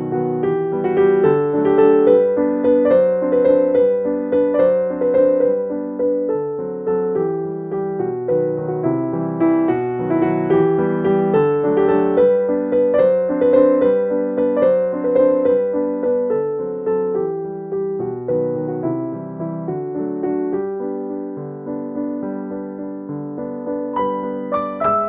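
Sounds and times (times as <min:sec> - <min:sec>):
piano melody: 0:00.0 - 0:25.0.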